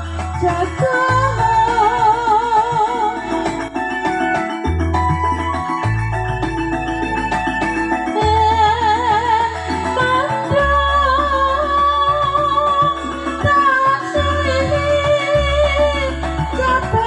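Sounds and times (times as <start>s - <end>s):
sustained bass notes: 0.0s - 17.0s.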